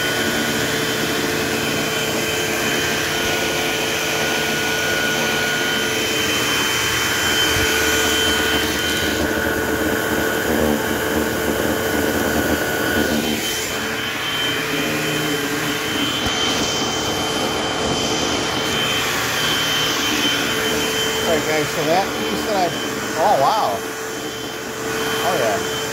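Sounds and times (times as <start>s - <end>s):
vacuum cleaner running: 0.0s - 25.9s.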